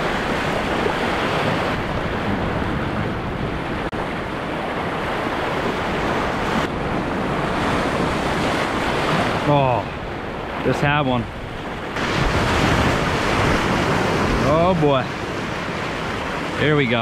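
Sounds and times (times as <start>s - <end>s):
surf breaking on rocks: 0.0s - 17.0s
wind buffeting microphone: 0.0s - 17.0s.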